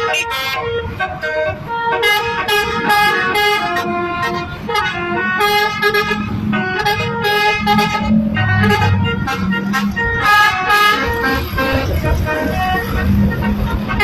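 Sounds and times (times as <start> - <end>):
low road rumble: 0.0 - 14.0
multi-tone air horn melody: 0.0 - 14.0.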